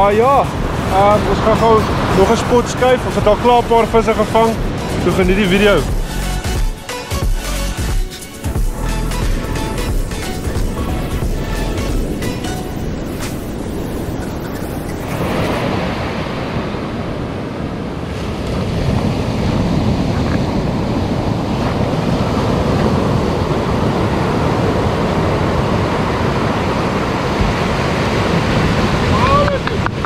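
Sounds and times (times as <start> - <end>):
wind buffeting microphone: 0.0 - 6.1, 8.6 - 30.0
ocean surf breaking: 0.0 - 30.0.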